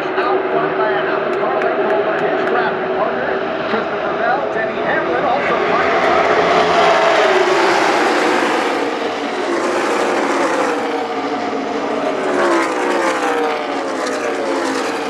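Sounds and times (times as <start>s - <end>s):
race cars passing at full speed: 0.0s - 15.0s.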